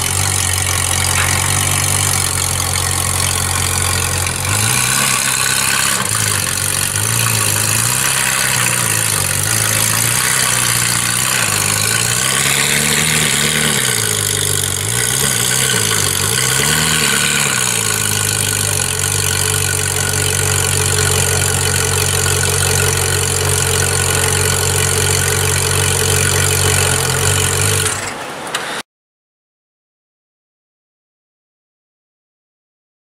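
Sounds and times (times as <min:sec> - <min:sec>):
car engine revving and idling: 0:00.0 - 0:28.4.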